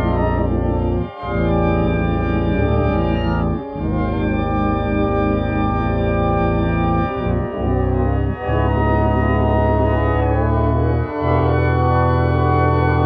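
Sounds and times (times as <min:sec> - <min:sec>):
buzzy organ-like chords: 0:00.0 - 0:13.0.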